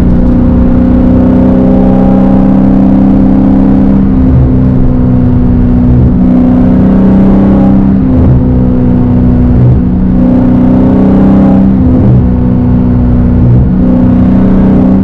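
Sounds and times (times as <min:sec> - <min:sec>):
loud car exhaust: 0:00.0 - 0:15.0.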